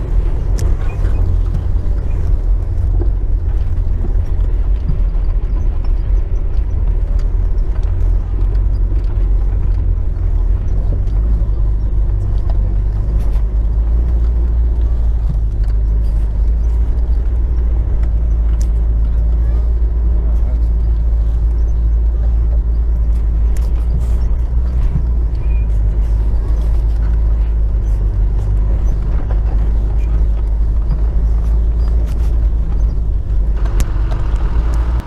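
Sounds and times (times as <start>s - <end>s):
knocks and rattles from bumpy ride: 0.0s - 35.0s
vehicle engine droning: 0.0s - 35.0s.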